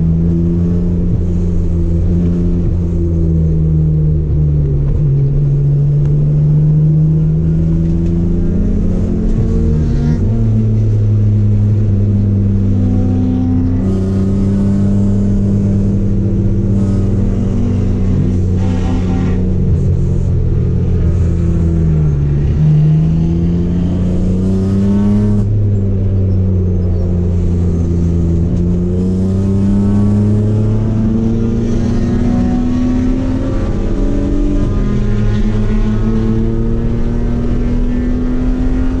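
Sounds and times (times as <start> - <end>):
race car engine running hard: 0.0 - 39.0.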